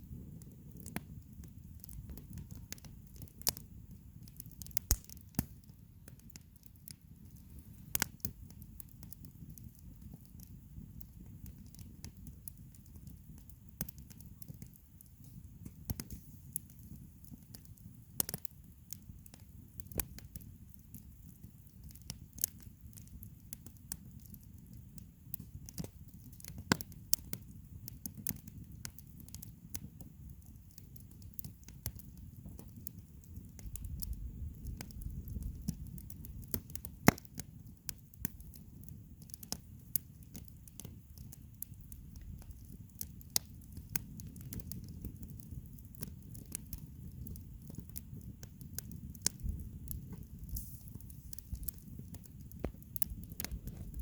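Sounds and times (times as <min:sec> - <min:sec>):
campfire crackling: 0:00.0 - 0:54.0
low fire rumble: 0:00.0 - 0:54.0
sharp fire pops: 0:00.1 - 0:18.5, 0:25.3 - 0:54.0.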